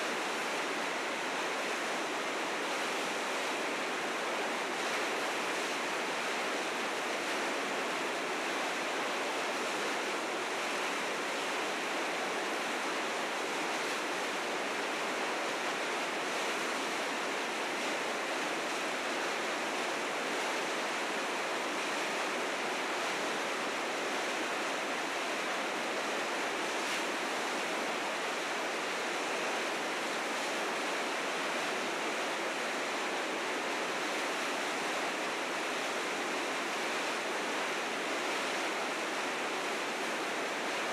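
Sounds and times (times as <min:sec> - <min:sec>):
river rapids roaring: 0:00.1 - 0:40.9.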